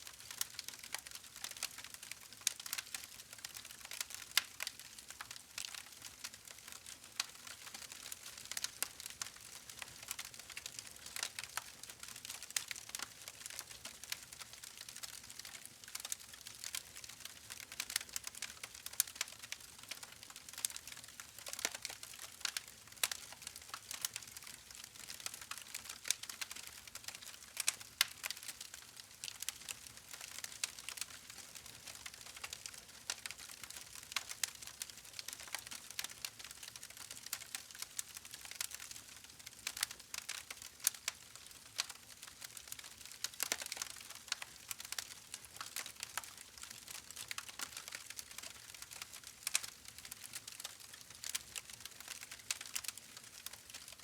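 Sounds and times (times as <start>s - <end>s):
faint steady hiss: 0.0s - 54.0s
campfire crackles and pops: 0.2s - 54.0s.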